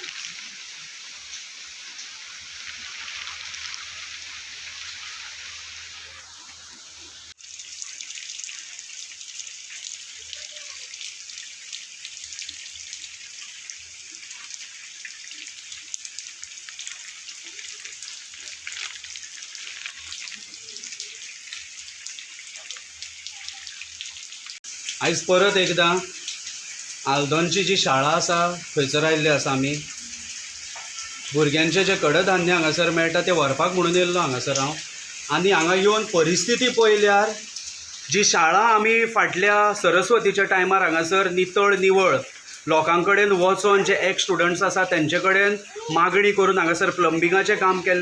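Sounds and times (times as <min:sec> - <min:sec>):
rainwater pouring and dripping: 0:00.0 - 0:48.0.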